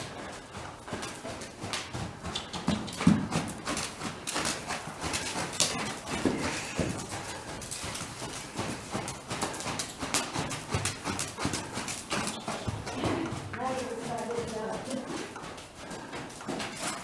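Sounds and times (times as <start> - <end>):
horse hoofbeats: 0.0 - 17.0.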